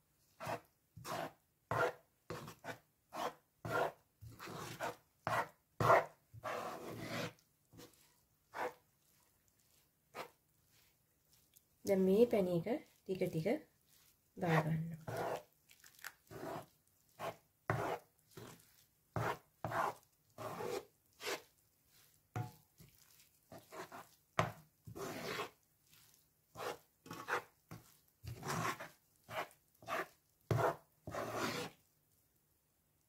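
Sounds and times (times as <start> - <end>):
wooden spoon scraping a pan: 0.0 - 31.8.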